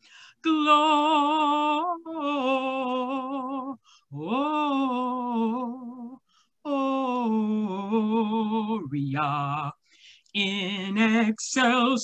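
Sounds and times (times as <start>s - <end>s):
person singing a hymn: 0.4s - 9.8s, 10.4s - 12.0s.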